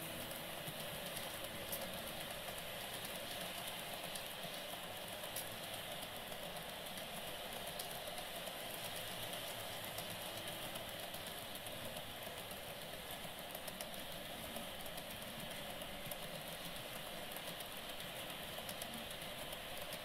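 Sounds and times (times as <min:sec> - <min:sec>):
model train wheels whirring: 0:00.0 - 0:20.0
faint clicks: 0:00.7 - 0:20.0.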